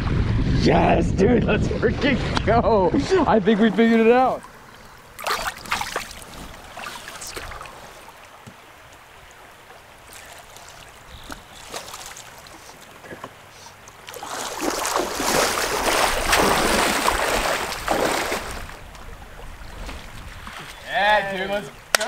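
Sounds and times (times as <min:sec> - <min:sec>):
shallow river running: 0:00.0 - 0:22.0
water splashing and sloshing: 0:01.8 - 0:22.0.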